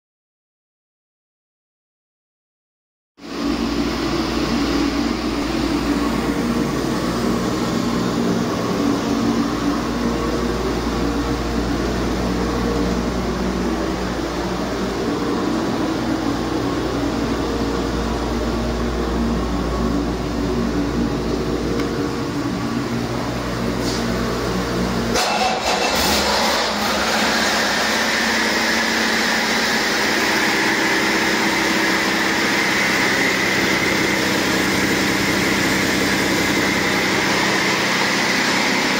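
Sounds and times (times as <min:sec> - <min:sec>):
rising high whine: 0:03.2 - 0:38.9
diesel engine rumbling: 0:03.3 - 0:38.9.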